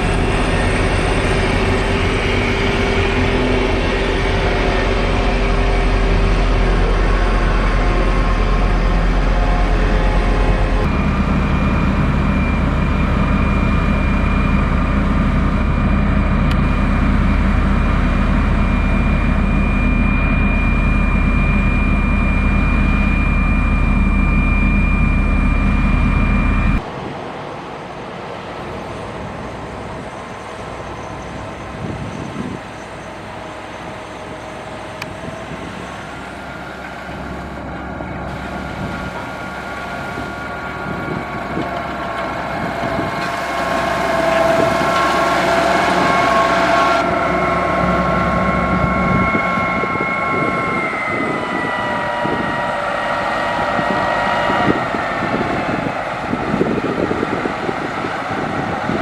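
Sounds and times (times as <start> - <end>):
diesel engine running under load: 0.0 - 26.8, 30.9 - 59.0
high whine: 0.0 - 26.9, 37.3 - 59.0.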